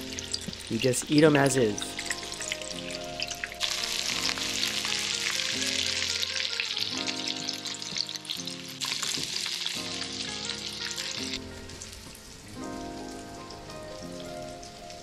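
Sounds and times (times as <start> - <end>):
fish patties sizzling in a skillet: 0.0 - 15.0
soft background music: 0.0 - 15.0.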